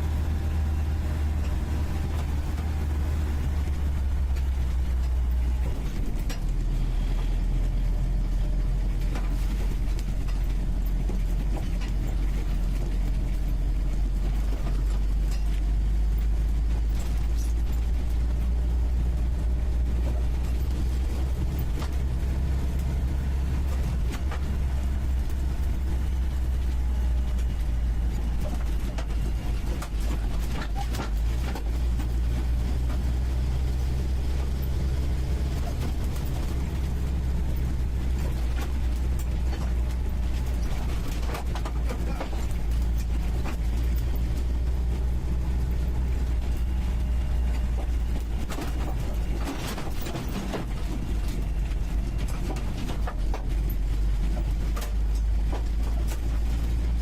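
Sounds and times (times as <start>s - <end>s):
car engine droning while driving: 0.0s - 57.0s
body knocks and rattles: 7.4s - 57.0s.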